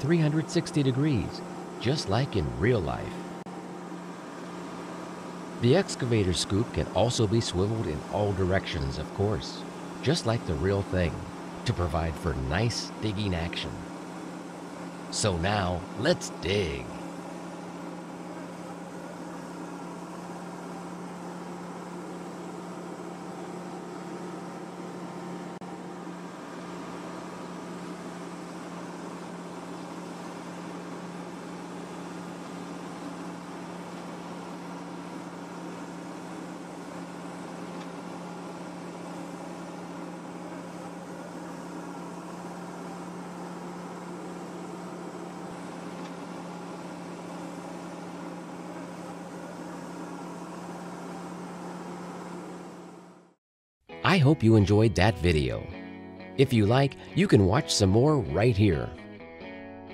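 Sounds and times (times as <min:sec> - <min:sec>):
mechanical hum: 0:00.0 - 0:53.4.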